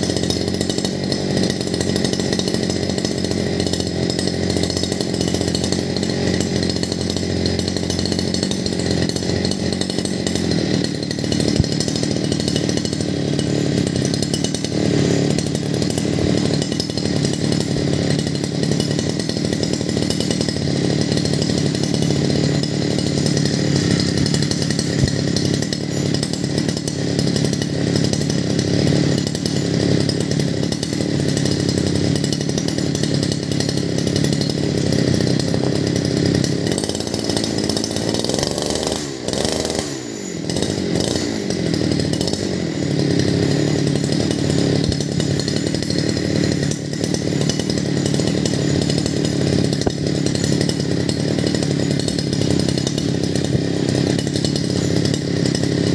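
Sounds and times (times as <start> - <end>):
brush cutter engine running: 0.0 - 55.9.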